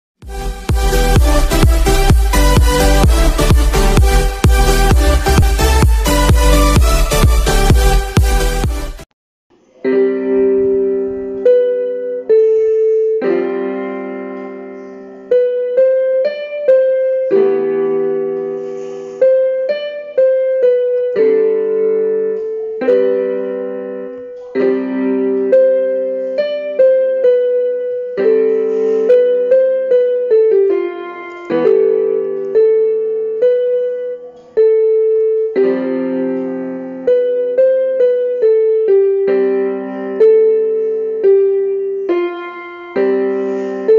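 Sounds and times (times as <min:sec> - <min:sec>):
solo piano music: 0:00.2 - 0:43.9.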